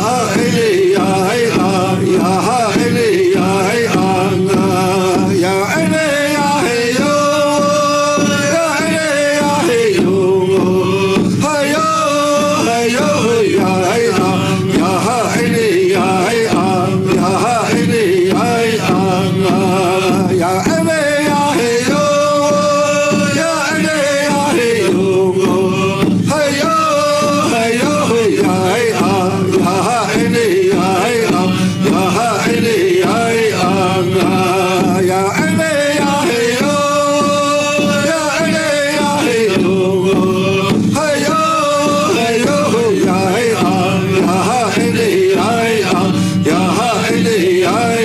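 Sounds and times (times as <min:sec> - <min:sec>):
man singing chant-like: 0:00.0 - 0:48.0.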